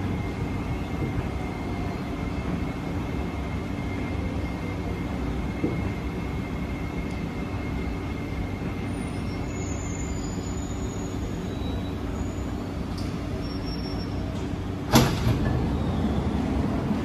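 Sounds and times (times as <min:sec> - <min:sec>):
train rumble inside car: 0:00.0 - 0:17.0.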